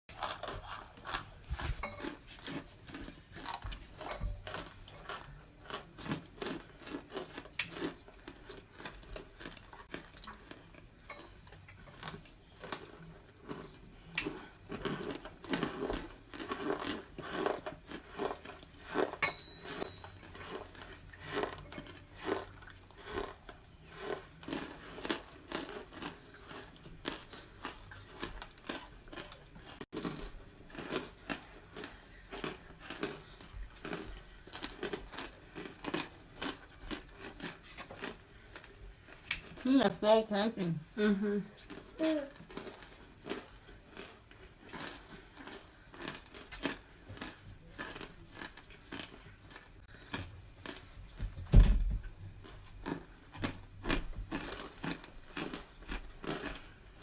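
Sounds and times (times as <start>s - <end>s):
crunchy food being chewed: 0.1s - 39.7s, 41.4s - 51.4s, 52.0s - 57.0s.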